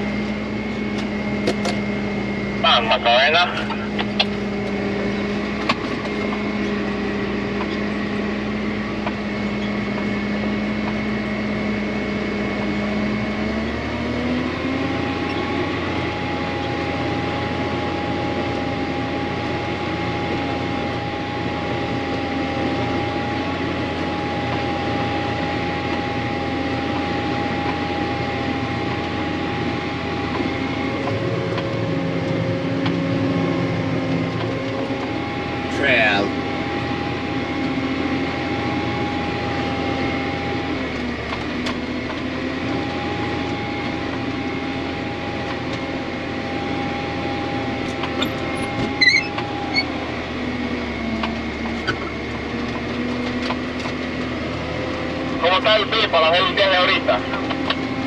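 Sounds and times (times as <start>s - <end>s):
thin steady whine: 0.0s - 13.8s, 14.4s - 58.0s
tractor engine running: 0.0s - 58.0s.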